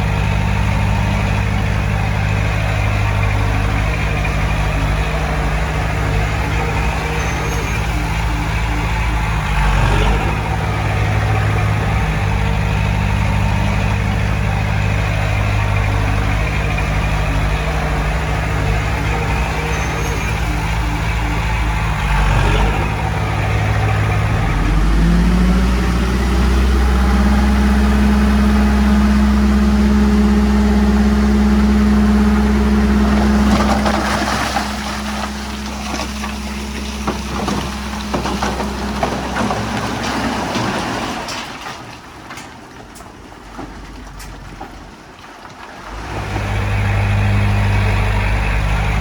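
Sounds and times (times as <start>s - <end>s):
diesel machine engine revving: 0.0s - 41.6s, 45.8s - 49.0s.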